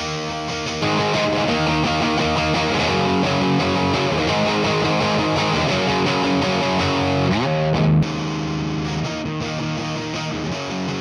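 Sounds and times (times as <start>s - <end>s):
overdriven electric guitar: 0.0s - 11.0s.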